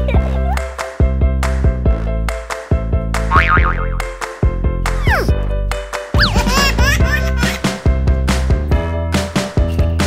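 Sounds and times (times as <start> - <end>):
bouncy children's music: 0.0 - 10.0.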